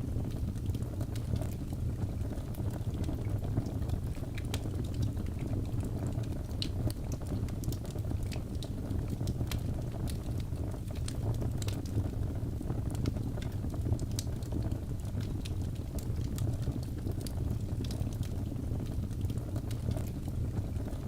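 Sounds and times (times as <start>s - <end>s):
fire crackles and pops: 0.0s - 21.0s
fire flames rumbling: 0.0s - 21.0s.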